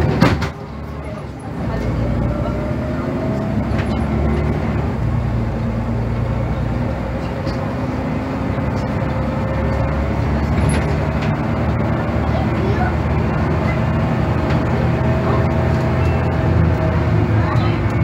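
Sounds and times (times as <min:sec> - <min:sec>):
bus engine running: 0:00.0 - 0:18.0
drivetrain whine: 0:00.0 - 0:18.0.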